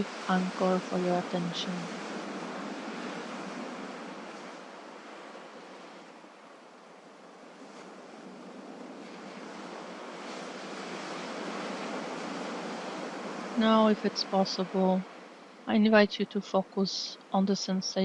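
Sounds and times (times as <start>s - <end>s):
sea waves washing on shore: 0.0s - 15.6s.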